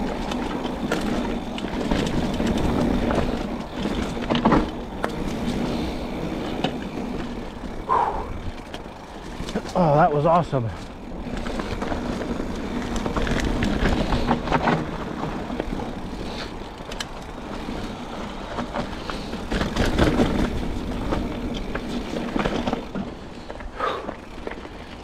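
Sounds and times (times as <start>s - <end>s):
bike rattling and knocking: 0.0s - 25.0s
bike tyres rolling on gravel: 0.0s - 25.0s.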